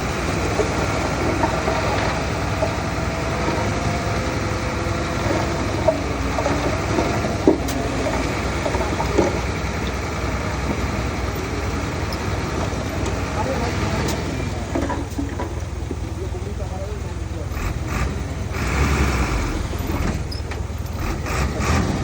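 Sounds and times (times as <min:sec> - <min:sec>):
construction machine diesel engine: 0:00.0 - 0:22.0.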